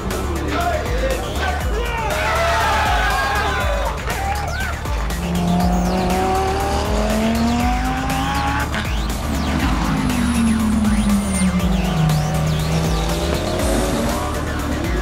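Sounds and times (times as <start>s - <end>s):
background music with low beat: 0.0s - 15.0s
race car engines revving: 0.0s - 15.0s.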